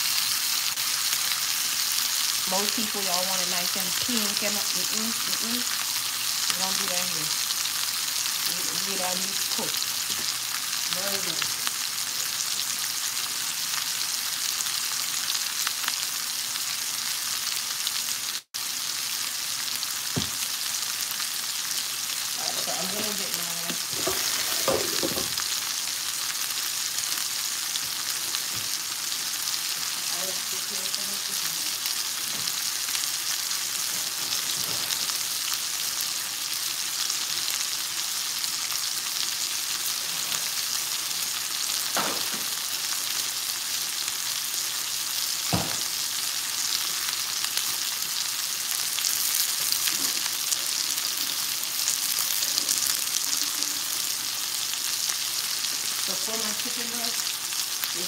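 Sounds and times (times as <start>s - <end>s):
meat sizzling in a skillet: 0.0s - 58.0s.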